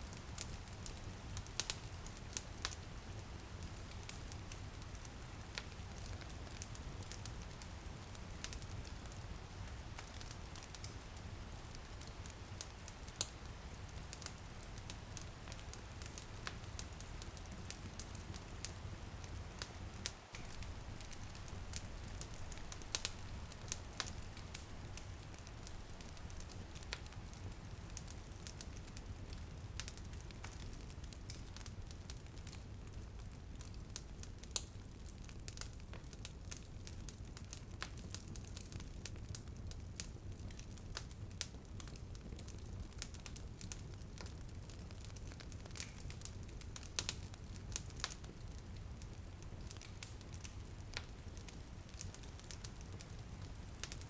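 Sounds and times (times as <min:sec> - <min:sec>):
rain pattering on a window: 0:00.0 - 0:54.0
wood fire crackling and popping: 0:00.1 - 0:54.0.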